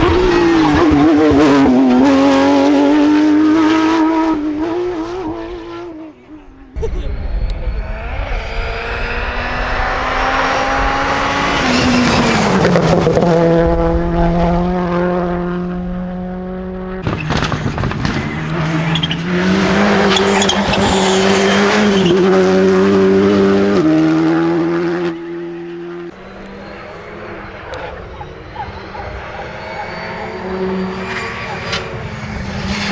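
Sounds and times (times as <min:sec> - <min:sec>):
engine shifting gears: 0:00.0 - 0:32.9
rally car engine revving: 0:00.0 - 0:32.9.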